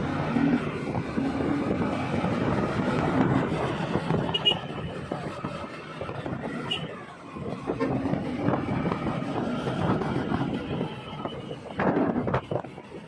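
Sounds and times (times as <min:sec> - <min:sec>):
motor vehicle running: 0:00.0 - 0:13.0.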